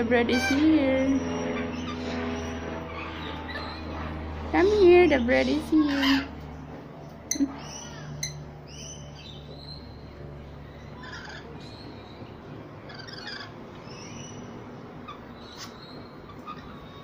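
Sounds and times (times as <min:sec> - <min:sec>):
lorikeets chirping and chattering: 0:00.0 - 0:17.0.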